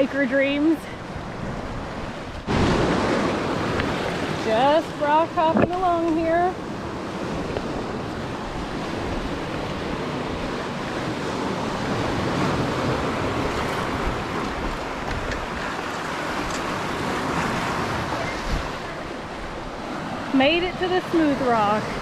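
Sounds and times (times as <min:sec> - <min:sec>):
wind buffeting microphone: 0:00.0 - 0:22.0
waves breaking on boulders: 0:00.2 - 0:22.0.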